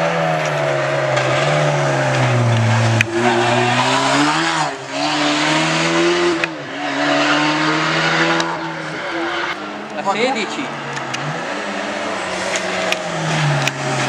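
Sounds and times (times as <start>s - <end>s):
rally car engine revving: 0.0s - 14.0s
sharp cracks at gear shifts: 0.4s - 14.0s.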